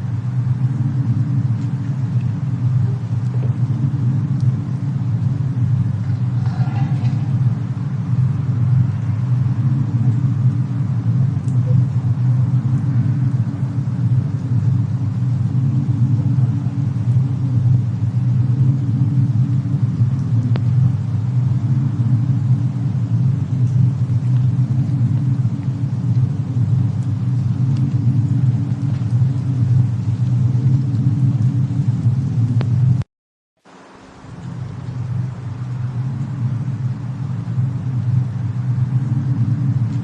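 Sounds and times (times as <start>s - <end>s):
faint fire crackles: 0.0s - 40.0s
low ambient rumble: 0.0s - 40.0s.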